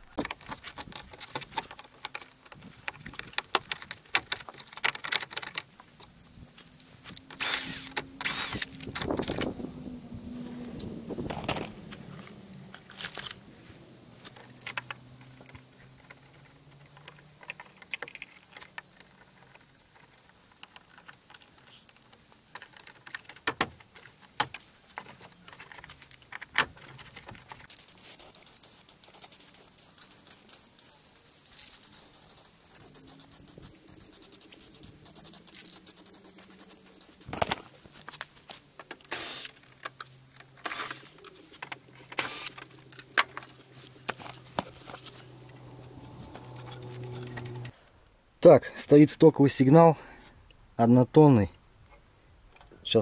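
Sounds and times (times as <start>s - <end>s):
hand tools and car parts clicking: 0.2s - 9.6s, 10.6s - 47.7s.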